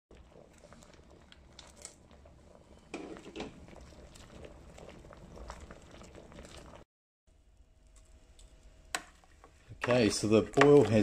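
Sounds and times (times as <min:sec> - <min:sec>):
wort boiling and bubbling: 0:00.1 - 0:11.0.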